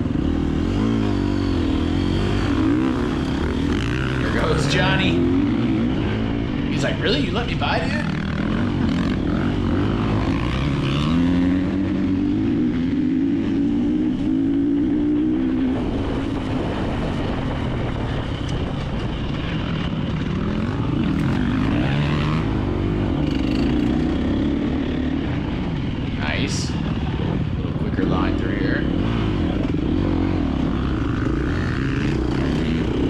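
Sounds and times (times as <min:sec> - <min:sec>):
dirt bike engine at low revs: 0:00.0 - 0:33.0.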